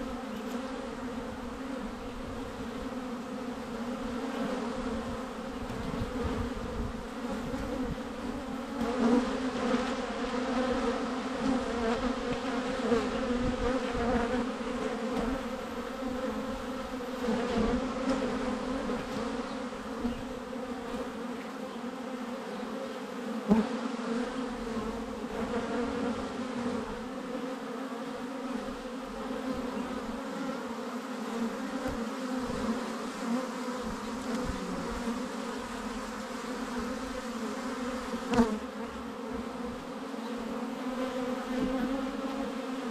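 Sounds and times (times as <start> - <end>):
honey bees buzzing: 0.0 - 42.9.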